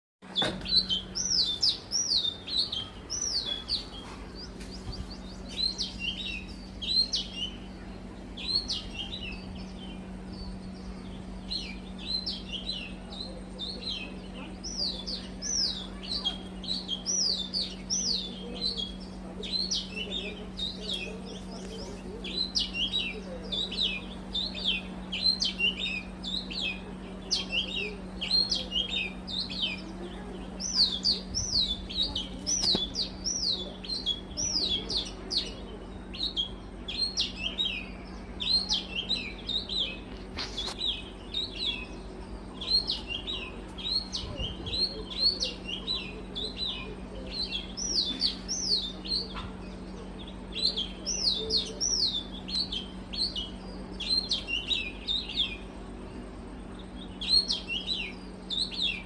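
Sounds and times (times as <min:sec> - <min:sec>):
small birds chirping: 0:00.2 - 0:59.0
steady low hum: 0:00.2 - 0:59.0.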